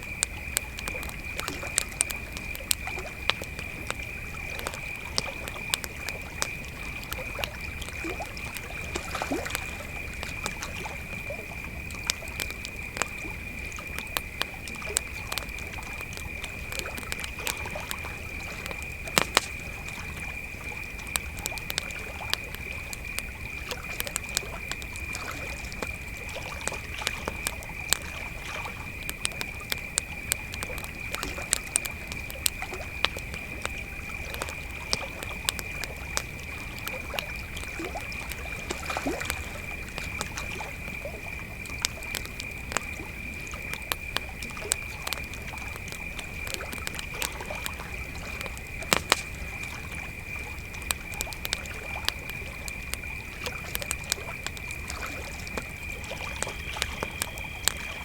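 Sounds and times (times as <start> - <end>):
campfire crackling and popping: 0.0 - 58.0
cricket chorus chirring: 0.0 - 58.0.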